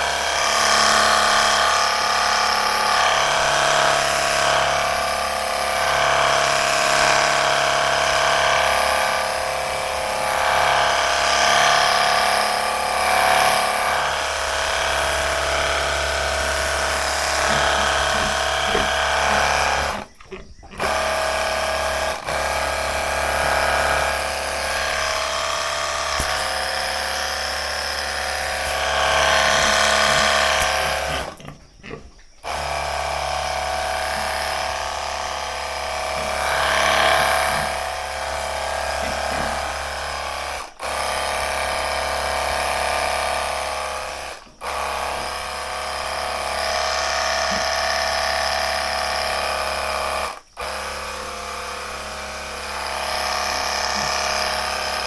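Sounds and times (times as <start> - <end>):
electric pressure washer motor hum: 0.0 - 31.6, 32.3 - 55.0.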